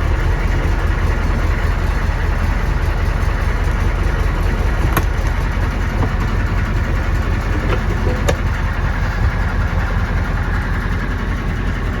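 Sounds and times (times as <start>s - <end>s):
diesel engine idling with knock: 0.0s - 12.0s.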